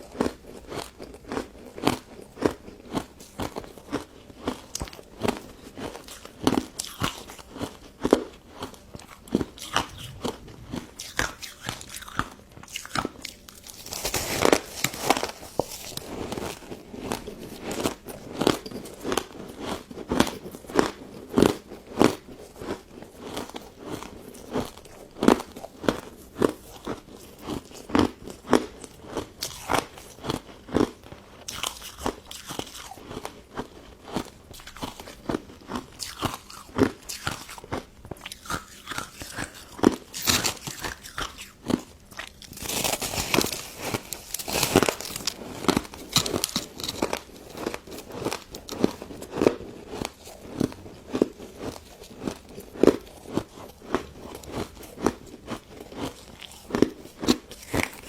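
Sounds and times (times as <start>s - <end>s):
crunchy ice dessert chewing: 0.0s - 58.0s.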